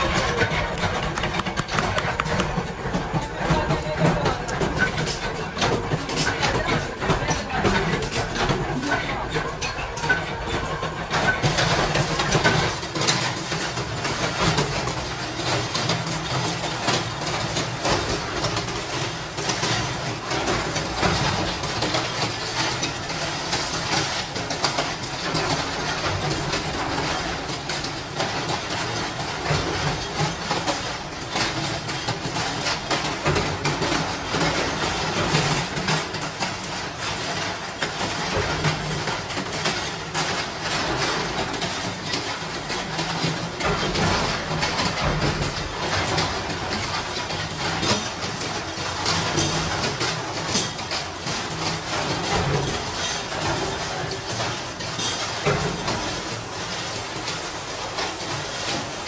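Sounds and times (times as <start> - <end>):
workshop machinery running: 0.0 - 59.0.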